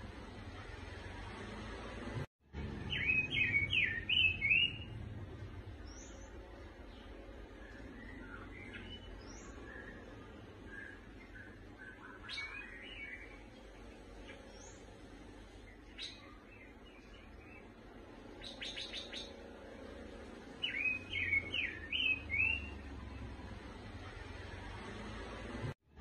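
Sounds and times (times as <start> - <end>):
bird chirping: 2.6 - 24.3.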